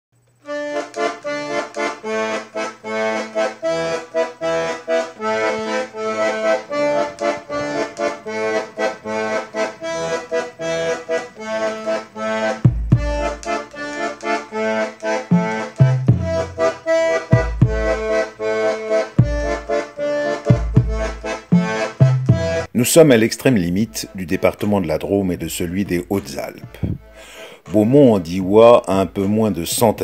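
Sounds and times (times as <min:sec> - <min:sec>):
lively instrumental music: 0:00.4 - 0:30.0.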